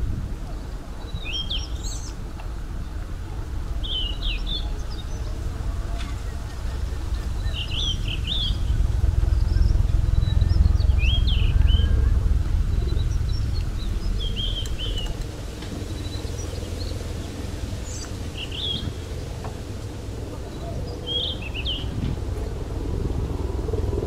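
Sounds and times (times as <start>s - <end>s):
bicycle tyres rolling on pavement: 0.0s - 24.0s
wind rumble on microphone: 0.0s - 24.0s
birds chirping: 0.4s - 22.7s.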